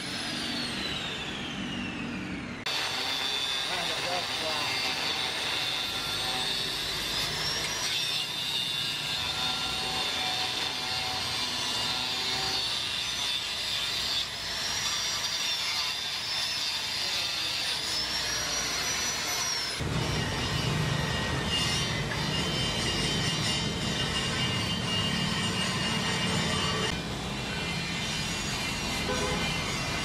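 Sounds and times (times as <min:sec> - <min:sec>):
angle grinder grinding metal: 0:02.7 - 0:30.0.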